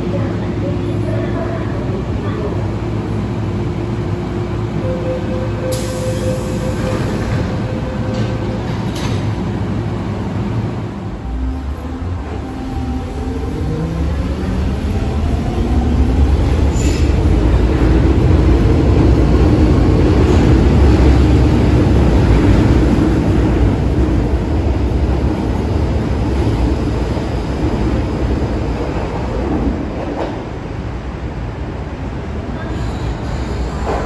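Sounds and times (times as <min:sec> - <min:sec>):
rail and wheel rumble: 0:00.0 - 0:34.0.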